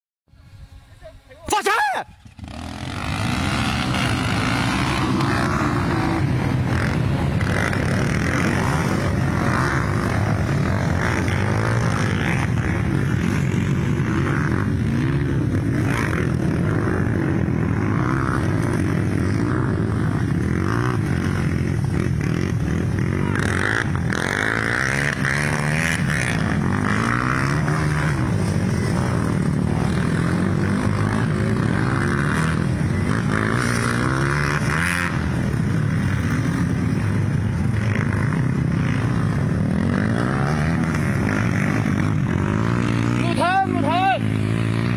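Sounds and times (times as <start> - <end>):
dirt bike engines revving: 0.4 - 44.9.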